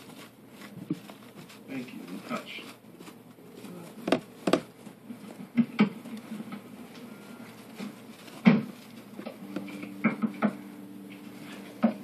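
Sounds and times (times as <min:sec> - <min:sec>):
hamsters scrabbling in bedding: 0:00.0 - 0:12.0
low steady hum: 0:00.0 - 0:12.0.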